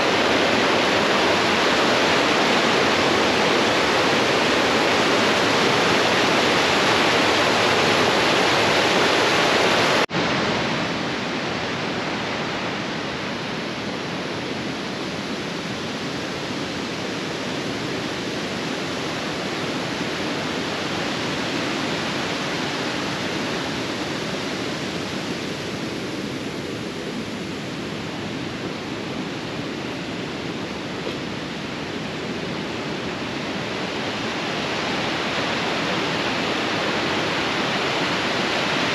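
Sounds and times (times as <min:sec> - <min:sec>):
rushing flowing water: 0:00.0 - 0:38.9.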